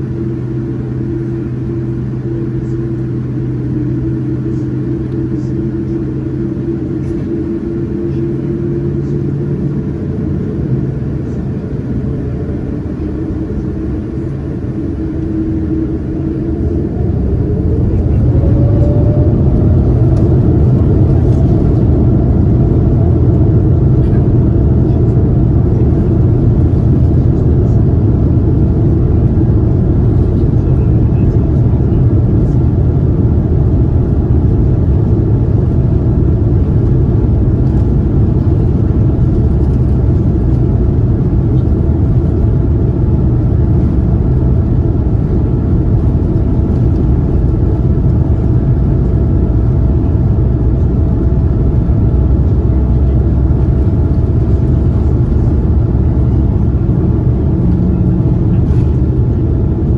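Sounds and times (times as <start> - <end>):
aircraft cabin engine rumble: 0.0 - 59.9
faint steady hums: 0.0 - 59.9.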